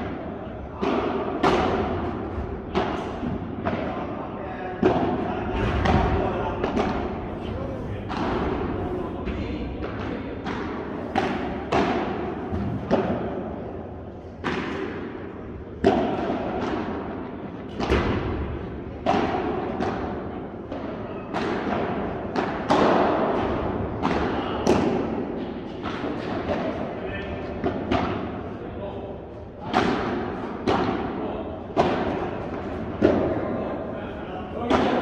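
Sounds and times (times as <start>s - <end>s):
balls struck and bouncing in hall: 0.0s - 35.0s.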